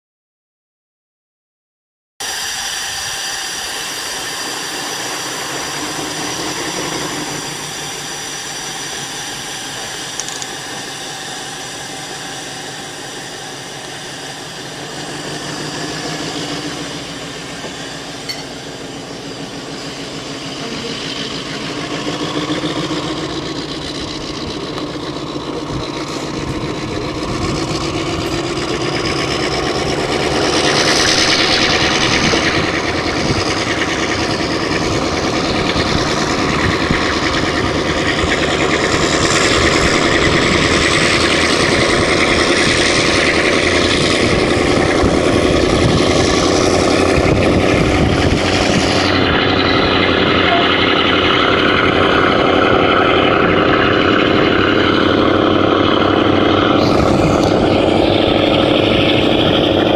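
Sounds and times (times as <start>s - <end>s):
locomotive engine idling: 2.2s - 59.9s.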